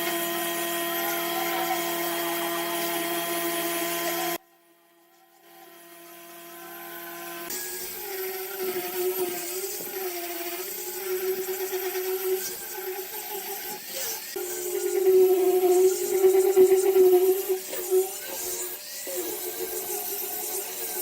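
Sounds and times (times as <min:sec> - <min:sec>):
electric power tool running: 0:00.0 - 0:04.4, 0:05.4 - 0:21.0.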